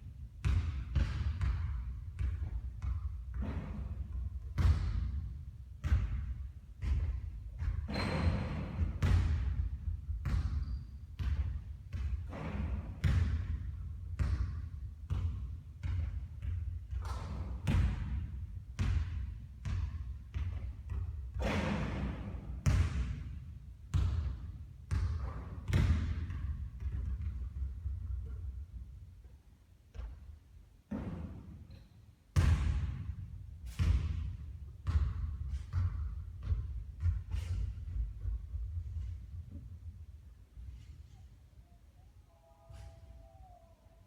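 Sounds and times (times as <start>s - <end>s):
basketballs bouncing on a court: 0.1s - 28.9s, 29.9s - 40.1s.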